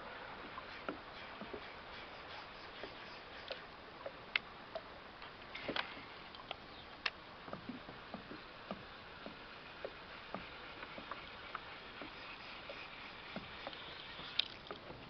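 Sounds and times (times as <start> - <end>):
hiss of moving water: 0.0 - 4.3, 4.9 - 15.0
water lapping against kayak hull: 0.0 - 15.0.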